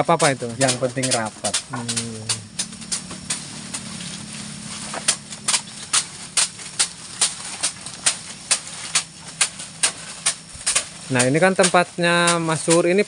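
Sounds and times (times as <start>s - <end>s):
blades chopping grass stalks: 0.0s - 13.0s.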